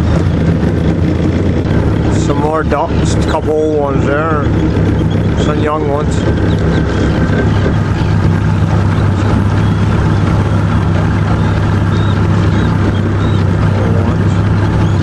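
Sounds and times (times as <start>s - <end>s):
outboard motor running: 0.0s - 15.0s
wind: 0.0s - 15.0s.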